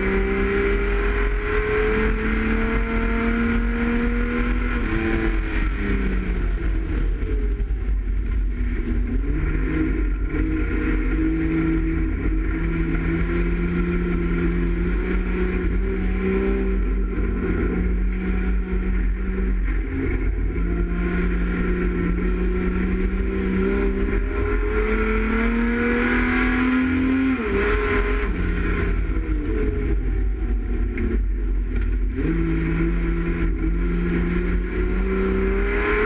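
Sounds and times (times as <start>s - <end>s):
race car engine running hard: 0.0s - 36.0s.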